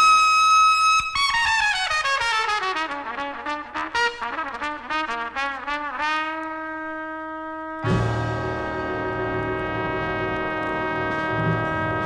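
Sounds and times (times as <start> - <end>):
solo trumpet playing: 0.0 - 12.0.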